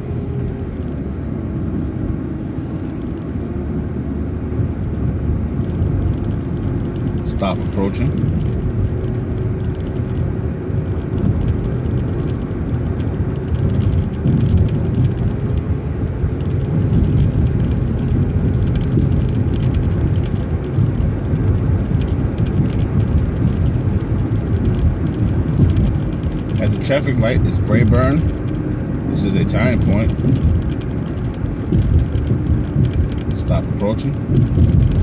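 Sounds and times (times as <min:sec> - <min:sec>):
bus engine and road rumble: 0:00.0 - 0:35.0
light rattling clicks: 0:05.6 - 0:35.0.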